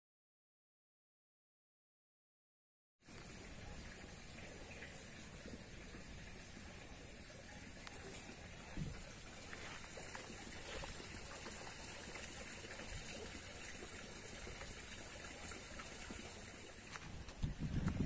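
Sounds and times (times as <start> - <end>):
creek water trickling: 3.0 - 18.0.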